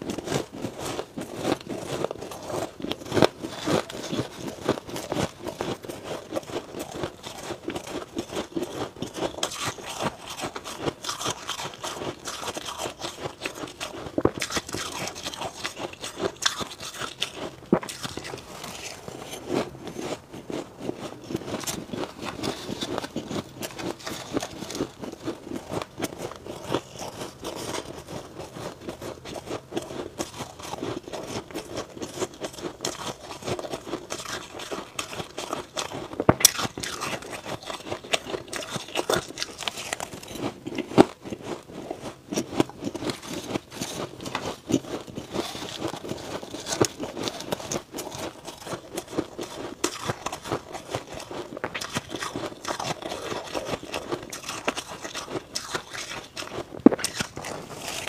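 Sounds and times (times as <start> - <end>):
ice crunching as it is chewed: 0.0 - 58.0.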